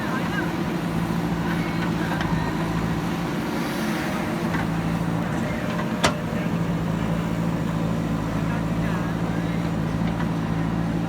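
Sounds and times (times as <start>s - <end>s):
diesel engine of heavy machinery: 0.0s - 11.0s.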